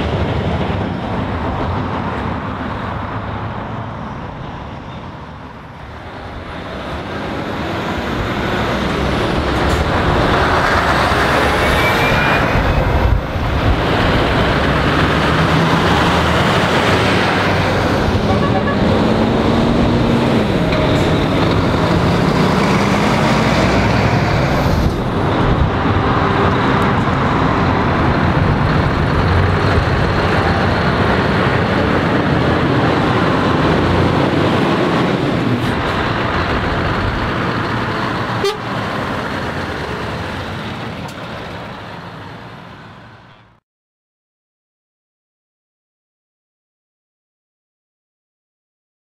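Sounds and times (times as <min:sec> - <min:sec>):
truck diesel engines accelerating: 0:00.0 - 0:43.6.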